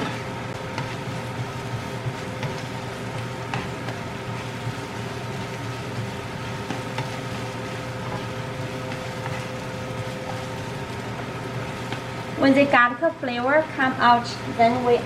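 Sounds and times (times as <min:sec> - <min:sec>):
garlic and onion sizzling in oil: 0:00.0 - 0:15.0
steady low hum: 0:00.0 - 0:15.0.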